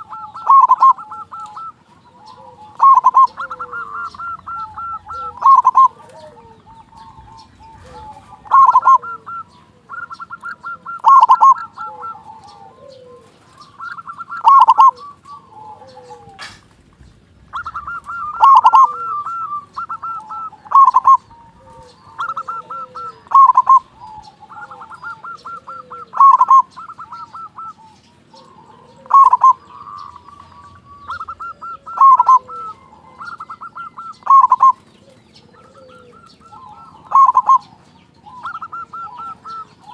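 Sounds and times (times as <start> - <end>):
dove cooing song: 0.0 - 39.9
faint low cooing: 0.0 - 39.9.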